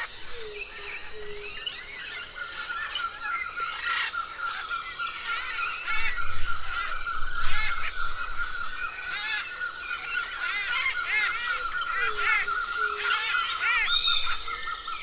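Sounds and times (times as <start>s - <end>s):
parrots chirping and calling: 0.0s - 15.0s.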